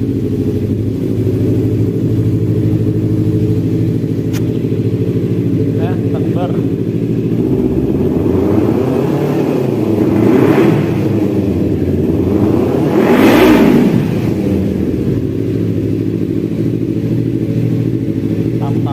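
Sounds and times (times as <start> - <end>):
motorcycle engine idling and revving: 0.0 - 18.9.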